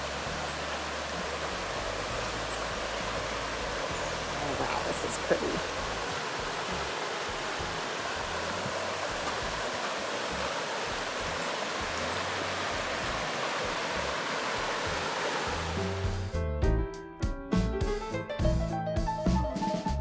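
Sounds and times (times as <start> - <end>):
piano and drums music: 0.0 - 9.8, 12.7 - 20.0
river water rushing: 0.0 - 16.2
faint background music: 0.0 - 20.0.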